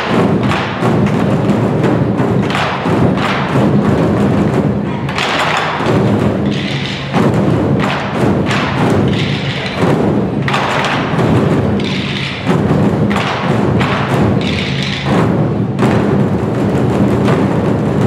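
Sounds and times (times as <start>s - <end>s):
drum ensemble beating: 0.0s - 18.0s.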